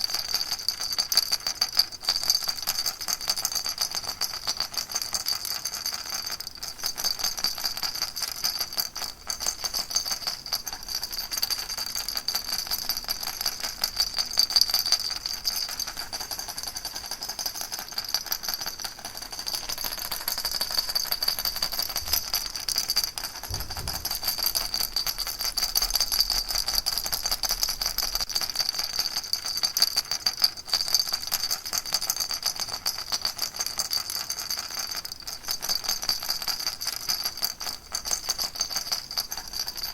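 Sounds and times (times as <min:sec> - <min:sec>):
steady high ringing tone: 0:00.0 - 0:31.1, 0:37.0 - 0:39.9
baby rattle shaking: 0:00.0 - 0:39.9.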